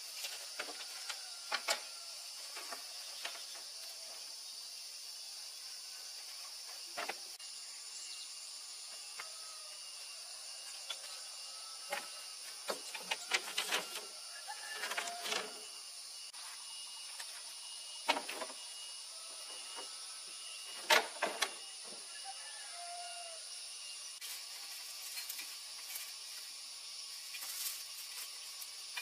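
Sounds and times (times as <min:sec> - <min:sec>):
high insect hiss: 0:00.0 - 0:29.0.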